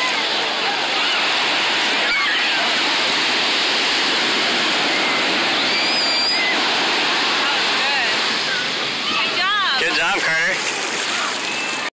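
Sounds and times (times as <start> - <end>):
ocean surf breaking: 0.0 - 11.9.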